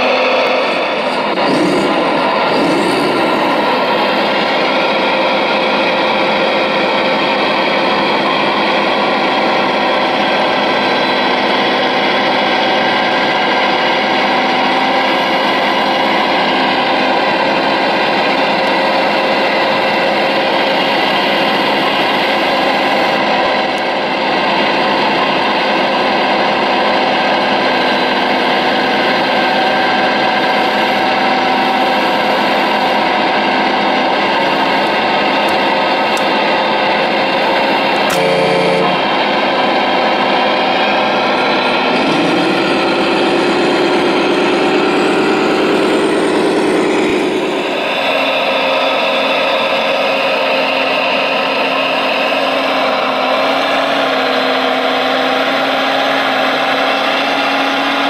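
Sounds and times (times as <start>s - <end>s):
hydraulic pump whining: 0.0s - 58.0s.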